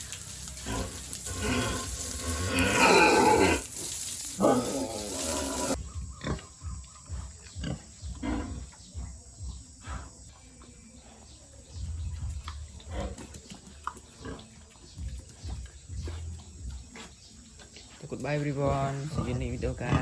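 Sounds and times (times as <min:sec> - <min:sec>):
pigs snuffling: 0:00.0 - 0:20.0
pigs grunting and squealing: 0:00.3 - 0:09.2, 0:11.0 - 0:20.0.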